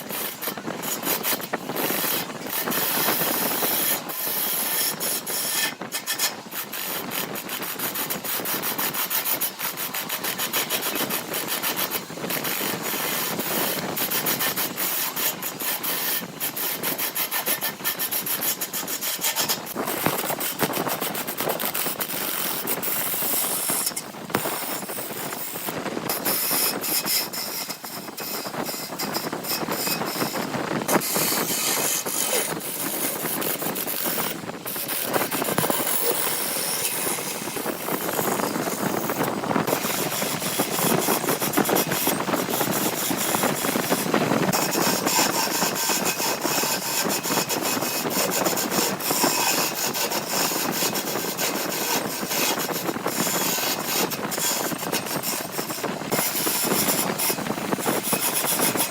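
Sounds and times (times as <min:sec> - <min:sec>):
tool scraping against wood: 0:00.0 - 0:58.9.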